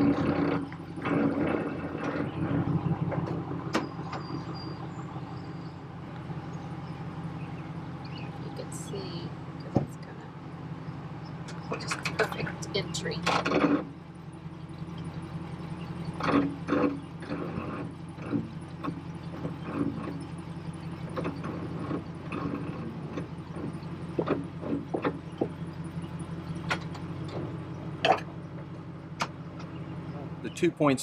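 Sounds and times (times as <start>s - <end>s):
engine idling hum: 0.0s - 31.0s.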